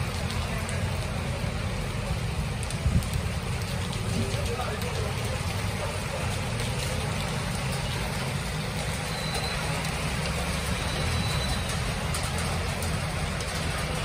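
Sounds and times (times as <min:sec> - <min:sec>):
passing motor traffic: 0:00.0 - 0:14.0
rain on a wet street: 0:00.0 - 0:14.0
van passing: 0:00.0 - 0:14.0.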